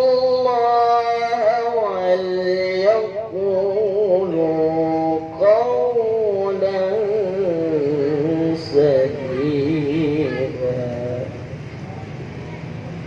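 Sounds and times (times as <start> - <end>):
man chanting recitation: 0.0 - 11.6.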